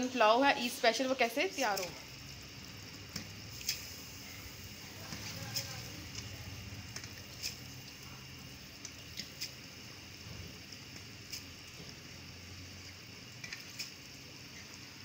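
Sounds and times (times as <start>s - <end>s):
pot simmering and bubbling: 0.0s - 15.0s.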